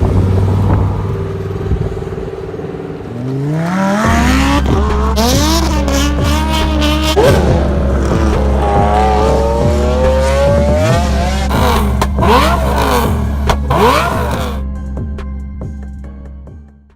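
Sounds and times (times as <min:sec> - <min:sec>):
car engine accelerating and revving: 0:00.0 - 0:14.6.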